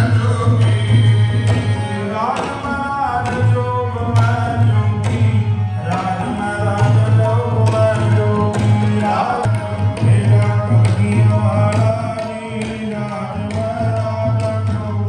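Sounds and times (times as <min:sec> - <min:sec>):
devotional singing: 0:00.0 - 0:15.0
tabla: 0:00.0 - 0:15.0.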